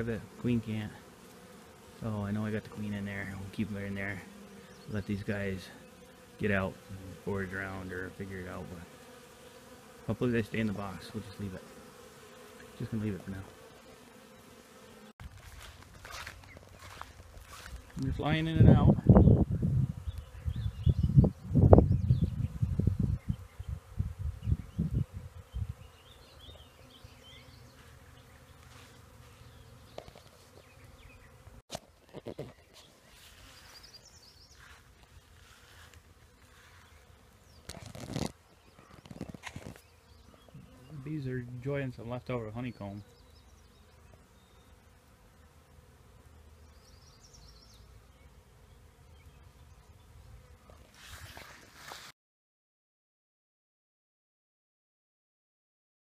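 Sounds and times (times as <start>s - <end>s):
bees buzzing: 0.0s - 52.1s.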